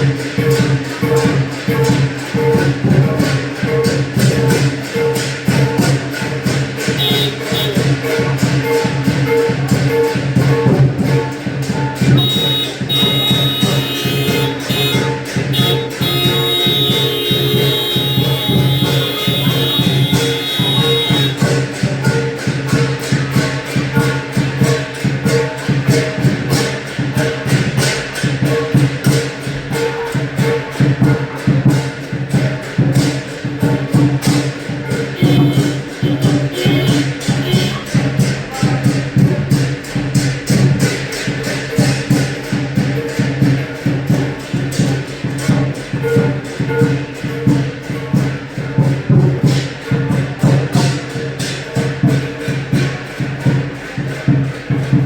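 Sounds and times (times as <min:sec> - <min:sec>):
cymbals clashing: 0:00.0 - 0:55.0
gong: 0:00.0 - 0:55.0
lion drum beating: 0:00.0 - 0:55.0.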